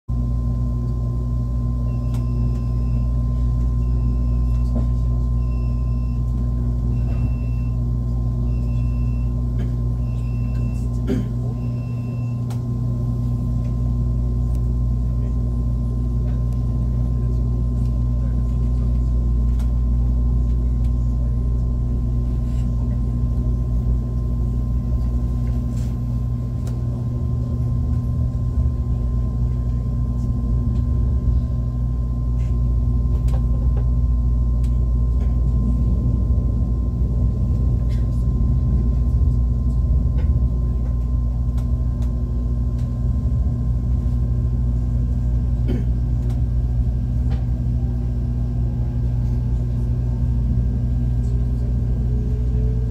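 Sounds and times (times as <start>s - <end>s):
constant hum: 0.1s - 52.9s
train rumbling along track: 6.2s - 52.9s.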